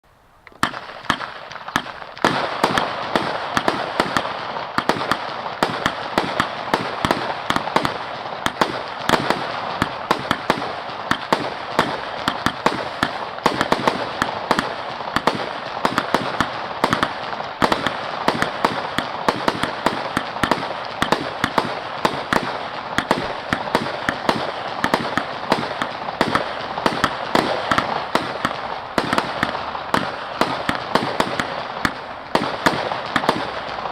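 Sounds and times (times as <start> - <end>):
firework crackle: 0.3 - 33.9
firework battery firing: 0.4 - 33.9.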